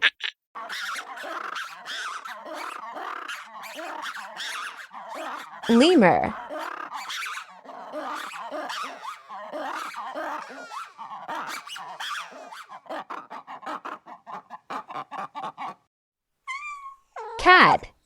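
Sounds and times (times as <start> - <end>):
lemurs chattering and squealing: 0.0 - 15.8
steady-pitched animal call: 0.0 - 15.8.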